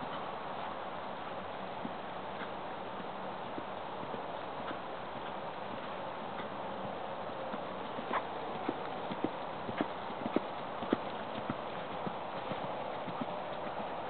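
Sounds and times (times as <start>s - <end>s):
horse hoofbeats on grass: 0.0s - 14.0s.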